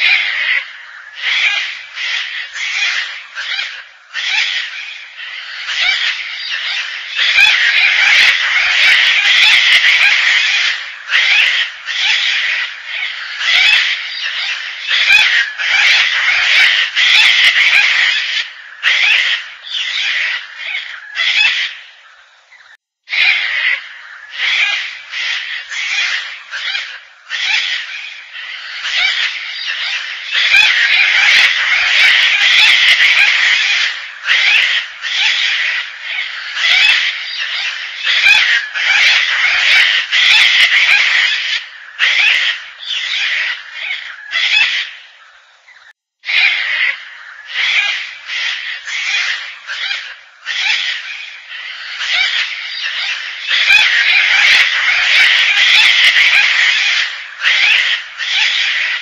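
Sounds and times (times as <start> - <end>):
cockatoo harsh scratchy calls: 0.0 - 59.0.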